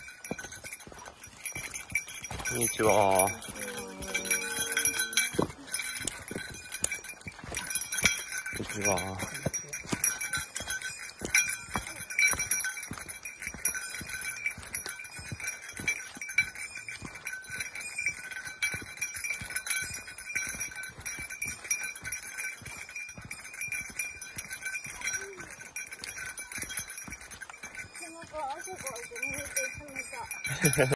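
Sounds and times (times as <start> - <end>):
footsteps on forest trail: 0.0 - 30.9
small bell jingling: 0.0 - 30.9.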